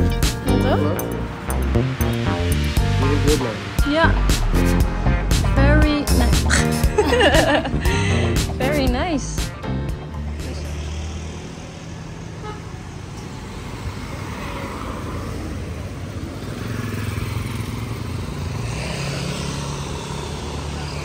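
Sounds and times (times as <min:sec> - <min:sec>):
cars and motorbikes passing: 0:00.0 - 0:21.0.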